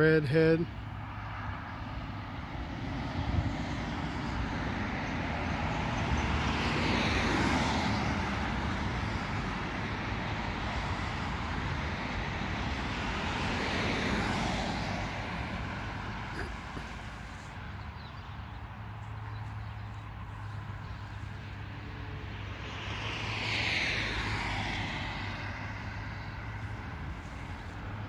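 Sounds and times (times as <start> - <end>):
cars passing by: 0.0 - 28.0
steady low traffic rumble: 0.0 - 28.0.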